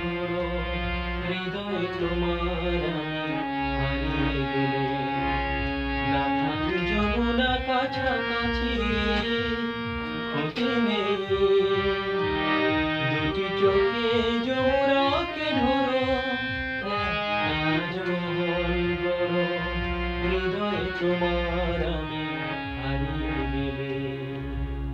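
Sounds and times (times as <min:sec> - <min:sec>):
harmonium playing: 0:00.0 - 0:24.9
low drum beat: 0:00.0 - 0:24.9.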